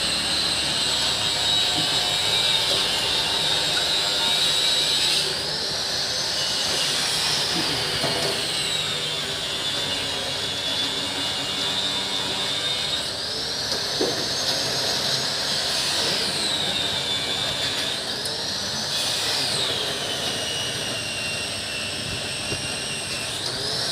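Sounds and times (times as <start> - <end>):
machine hiss and high whine: 0.0 - 23.9.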